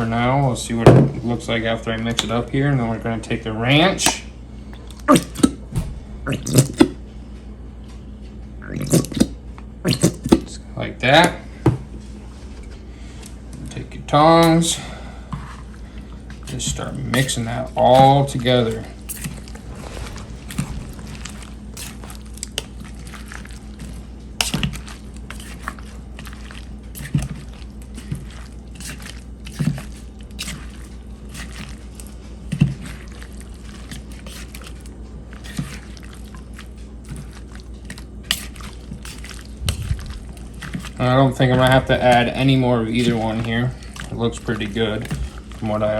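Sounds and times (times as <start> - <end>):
steady low hum: 0.0 - 45.9
wet squishing: 4.0 - 7.0, 8.7 - 10.6, 13.0 - 45.9.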